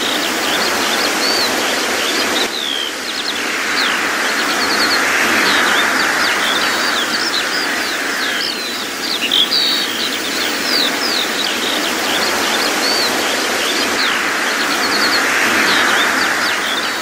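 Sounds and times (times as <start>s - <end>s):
small birds chirping: 0.0s - 17.0s
steady rushing background: 0.0s - 17.0s.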